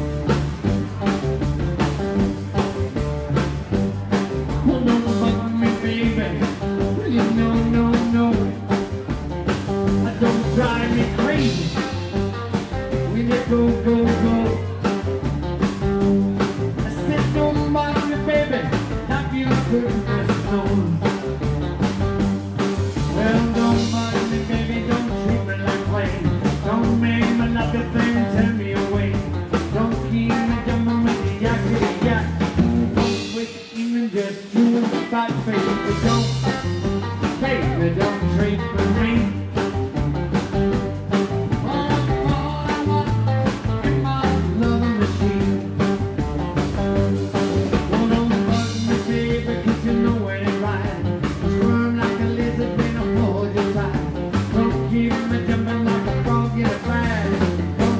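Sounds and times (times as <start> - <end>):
rockabilly band playing: 0.0 - 57.9.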